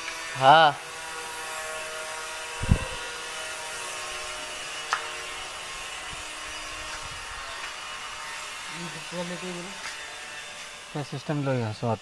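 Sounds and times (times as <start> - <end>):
machine hum and hiss: 0.0 - 11.4.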